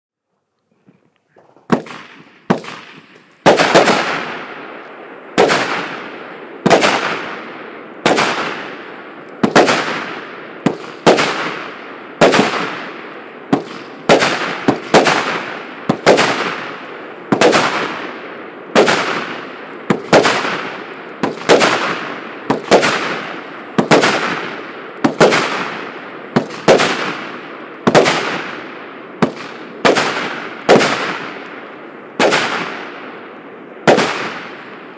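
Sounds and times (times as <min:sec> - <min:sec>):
firework bangs with hiss: 0:01.4 - 0:04.6, 0:05.3 - 0:31.6, 0:32.2 - 0:33.0, 0:33.8 - 0:34.8.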